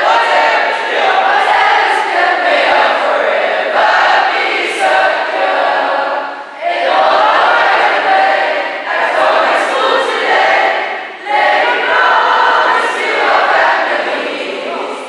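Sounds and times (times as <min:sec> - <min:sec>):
students singing in unison: 0:00.0 - 0:15.0.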